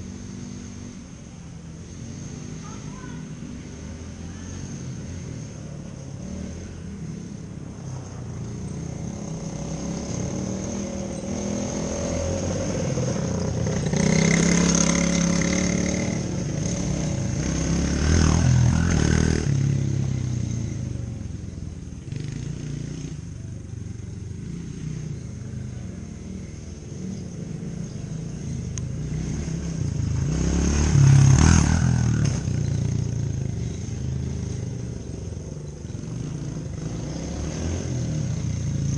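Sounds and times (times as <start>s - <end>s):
off-road vehicle engine passing: 0.0s - 38.9s.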